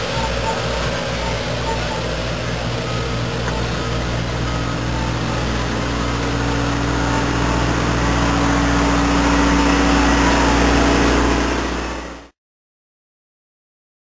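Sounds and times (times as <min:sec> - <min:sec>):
railcars rolling past: 0:00.0 - 0:12.3.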